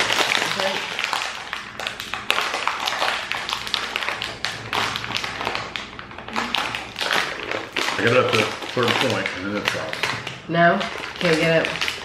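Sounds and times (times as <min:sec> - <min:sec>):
plastic snack bag crinkling: 0:00.0 - 0:12.0.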